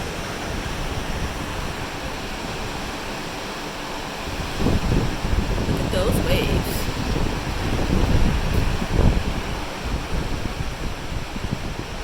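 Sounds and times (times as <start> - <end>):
ocean waves: 0.0 - 12.0
wind buffeting microphone: 0.0 - 12.0.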